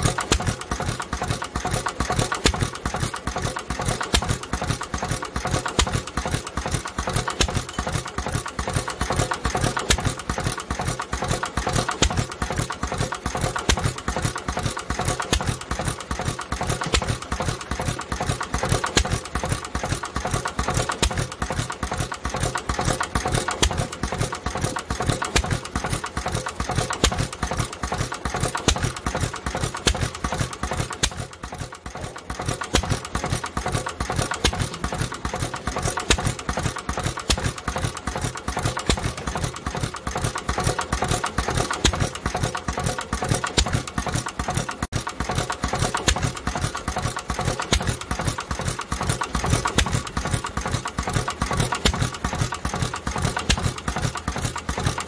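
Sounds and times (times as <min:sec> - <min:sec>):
hit-and-miss engine running: 0:00.0 - 0:55.0.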